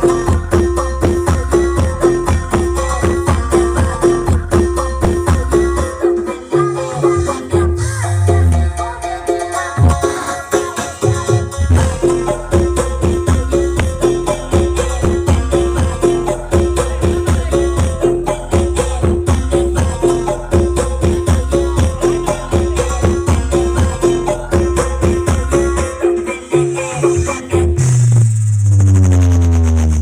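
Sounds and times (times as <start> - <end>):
busy percussion: 0.0 - 30.0
loud music with heavy bass beat: 0.0 - 30.0.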